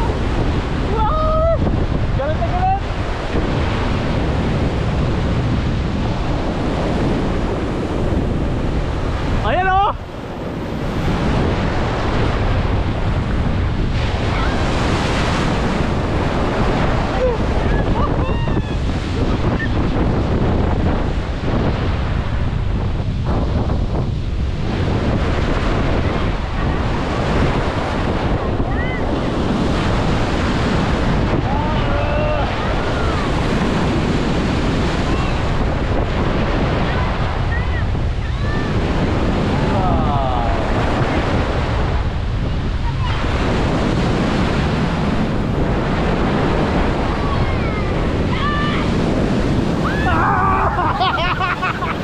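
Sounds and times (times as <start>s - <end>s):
storm surf breaking: 0.0s - 52.0s
wind buffeting microphone: 0.0s - 52.0s.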